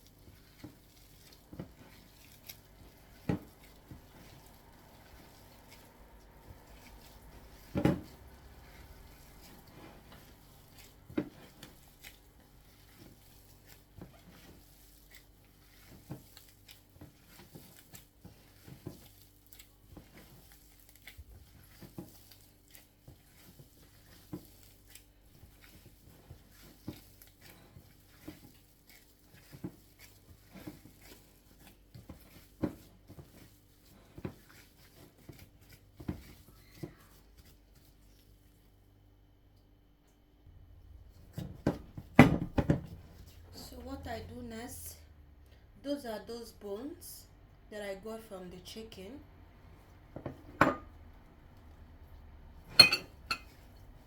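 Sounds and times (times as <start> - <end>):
hands squishing food mixture: 0.0 - 54.0.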